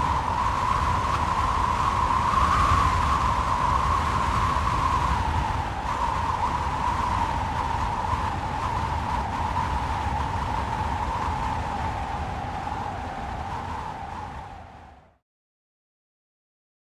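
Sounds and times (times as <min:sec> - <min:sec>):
strong wind howling: 0:00.0 - 0:15.2.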